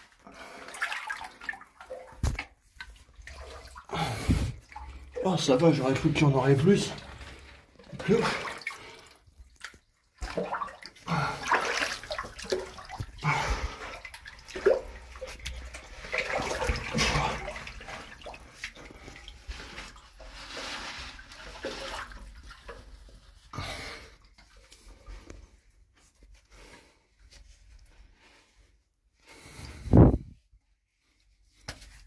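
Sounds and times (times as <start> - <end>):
water sloshing and splashing: 0.0 - 26.2.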